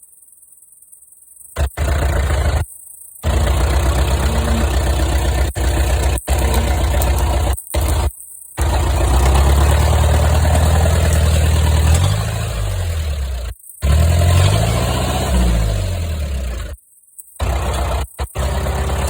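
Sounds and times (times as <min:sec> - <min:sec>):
engine revving hard: 0:01.6 - 0:02.6, 0:03.2 - 0:16.8, 0:17.4 - 0:19.0.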